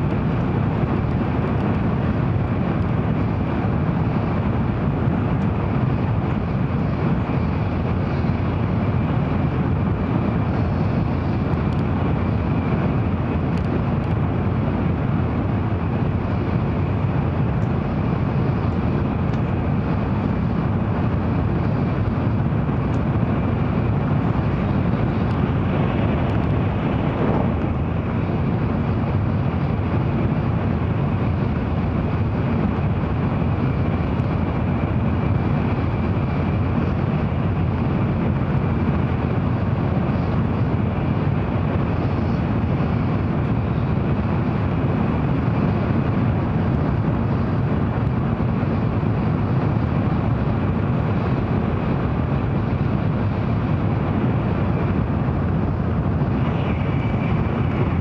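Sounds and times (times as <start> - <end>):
train rumble inside cabin: 0.0 - 58.0.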